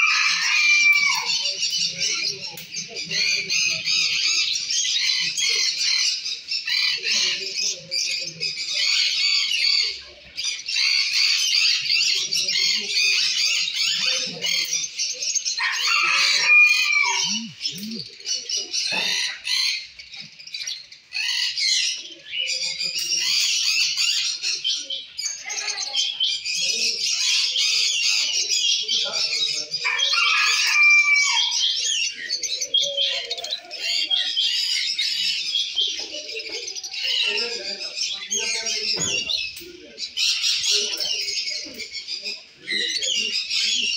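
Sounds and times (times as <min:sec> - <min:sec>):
birds chirping and chattering: 0:00.0 - 0:43.9.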